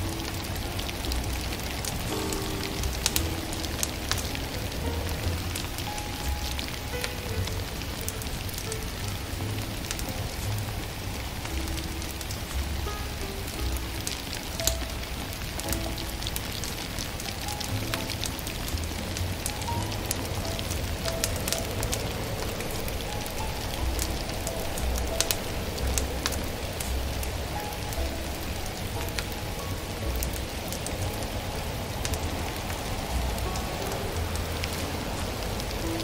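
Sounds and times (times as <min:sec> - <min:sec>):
soft background music: 0:00.0 - 0:36.0
wood fire crackling: 0:00.0 - 0:36.0.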